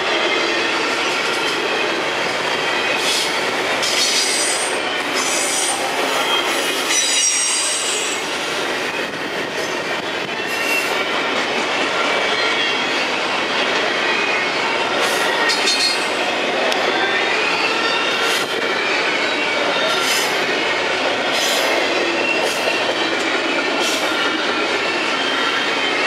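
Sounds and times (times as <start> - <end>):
train cars rolling on rails: 0.0 - 26.0.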